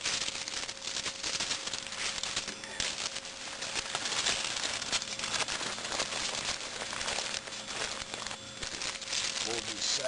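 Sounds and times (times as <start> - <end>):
aluminum foil crinkling: 0.0 - 10.0.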